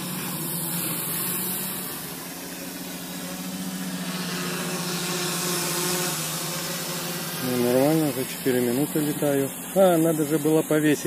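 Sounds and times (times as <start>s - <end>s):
hiss: 0.0s - 11.0s
quadcopter propellers buzzing: 0.0s - 11.0s.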